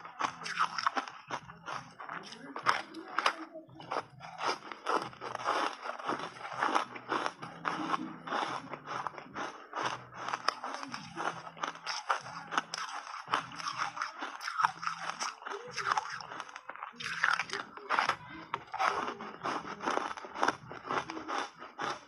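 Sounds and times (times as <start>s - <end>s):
ice being bitten and chewed: 0.0s - 22.0s.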